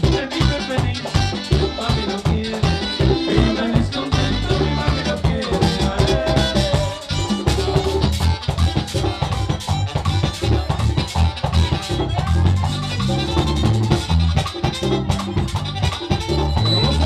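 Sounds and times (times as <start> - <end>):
live band dance music: 0.0 - 17.0
scraped percussion: 0.0 - 17.0.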